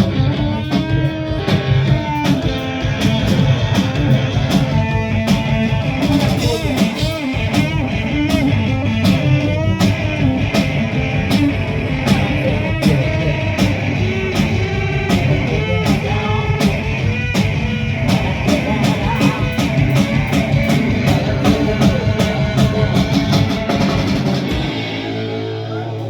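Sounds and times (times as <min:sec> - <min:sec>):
electric guitar with bending notes: 0:00.0 - 0:26.0
steady drum beat: 0:00.0 - 0:26.0.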